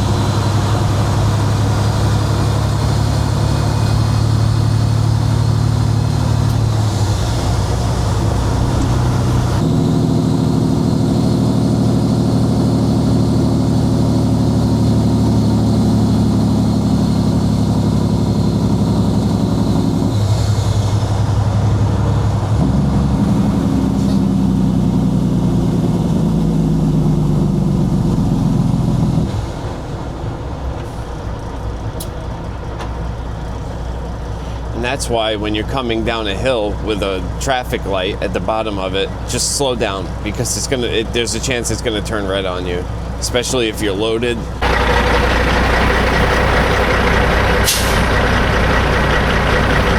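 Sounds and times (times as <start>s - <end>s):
truck diesel engine running: 0.0s - 49.9s.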